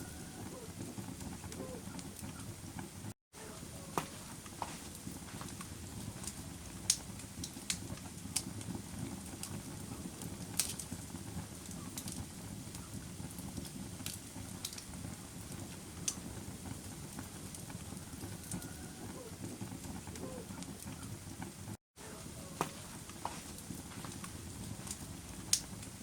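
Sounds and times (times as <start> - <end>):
campfire crackling and popping: 0.0 - 26.0
low rumble of burning: 0.0 - 26.0.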